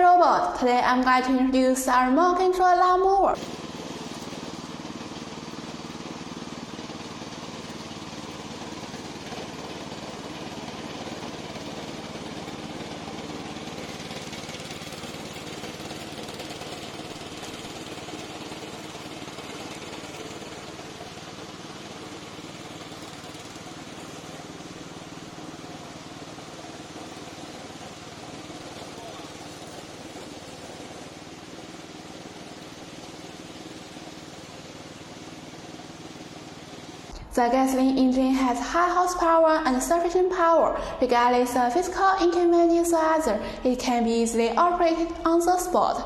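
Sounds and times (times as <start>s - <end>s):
lawn mower engine running: 0.0s - 46.0s.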